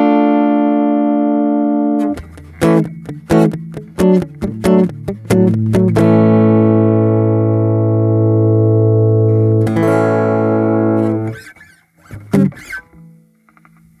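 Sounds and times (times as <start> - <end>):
acoustic guitar strummed: 0.0 - 13.3.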